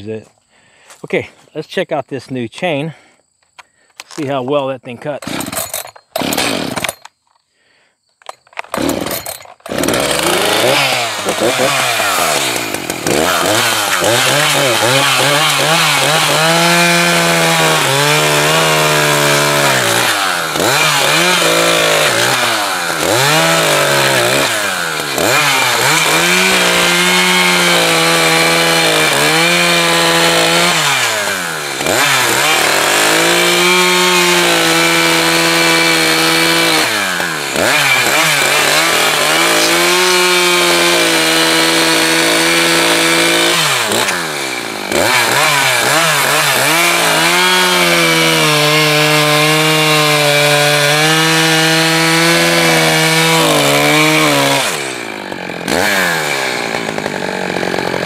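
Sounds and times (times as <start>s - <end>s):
chainsaw cutting logs: 5.0s - 58.0s.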